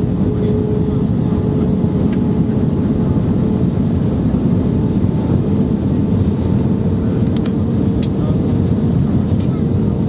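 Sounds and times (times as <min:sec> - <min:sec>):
aircraft cabin engine drone: 0:00.0 - 0:10.0.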